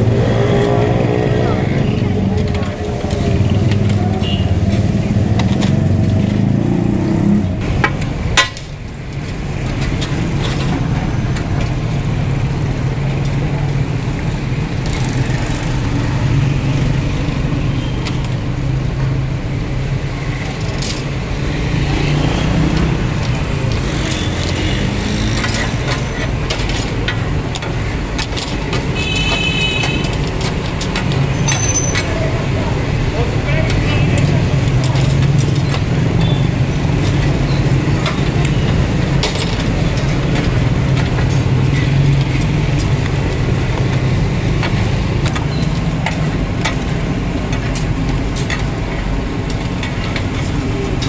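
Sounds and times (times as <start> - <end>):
street noise: 0.0 - 51.0.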